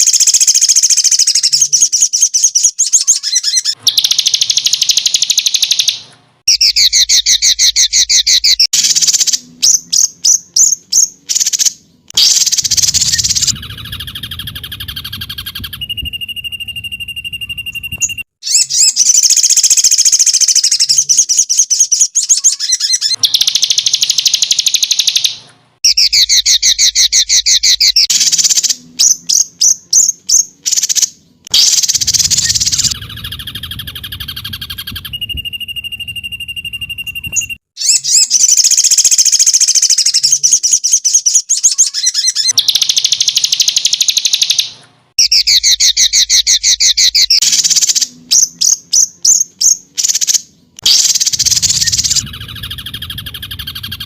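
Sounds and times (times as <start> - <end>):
short bird trills: 0.0 - 54.0
songbird song: 0.0 - 54.0.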